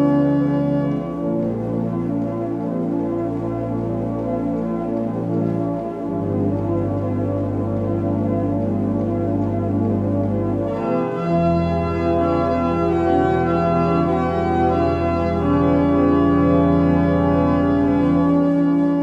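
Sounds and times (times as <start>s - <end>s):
pipe organ playing chords: 0.0s - 19.0s.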